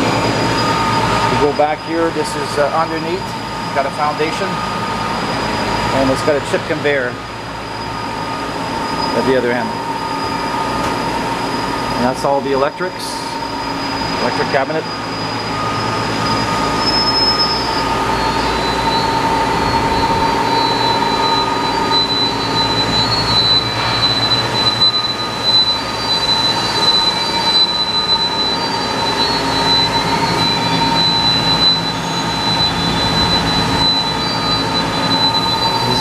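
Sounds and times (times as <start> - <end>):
machining center humming and whining: 0.0 - 36.0.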